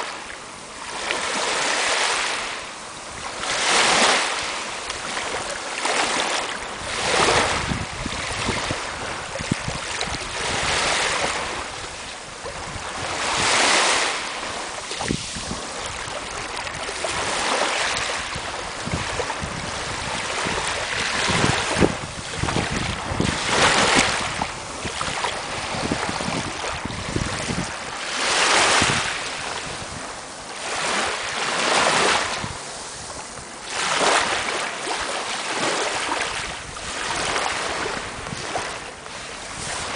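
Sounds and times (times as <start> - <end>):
small waves washing over sand: 0.0 - 39.9
wind rumbling on microphone: 0.0 - 39.9.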